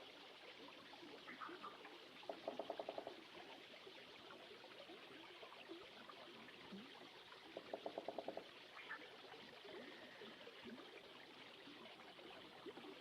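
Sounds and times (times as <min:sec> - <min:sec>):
stream trickling: 0:00.0 - 0:13.0.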